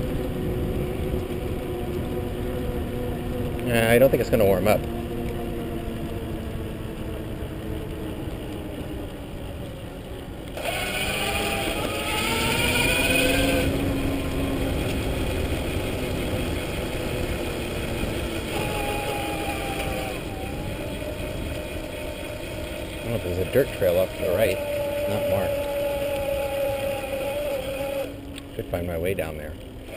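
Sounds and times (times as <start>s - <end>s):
electric motor whine: 0.0s - 29.9s
wind and tyres rumbling: 0.0s - 29.9s.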